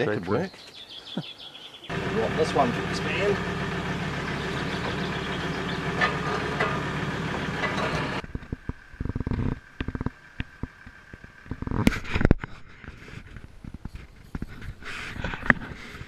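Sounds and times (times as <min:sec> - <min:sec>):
tractor engine idling: 0:01.9 - 0:16.0.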